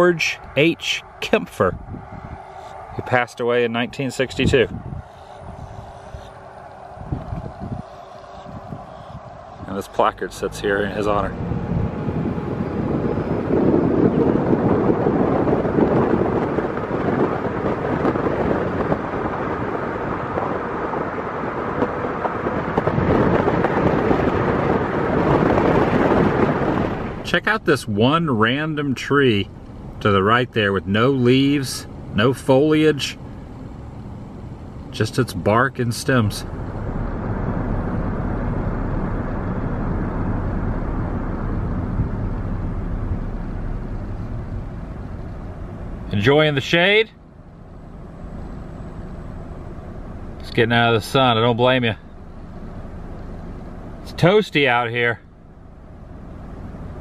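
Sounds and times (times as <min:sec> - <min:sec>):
car wind and road noise: 0:00.0 - 0:57.0.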